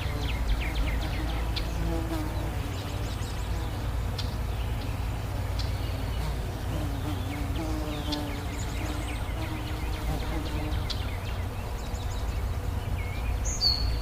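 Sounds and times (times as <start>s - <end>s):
bee buzzing: 0.0s - 14.0s
bird chirps: 0.0s - 14.0s.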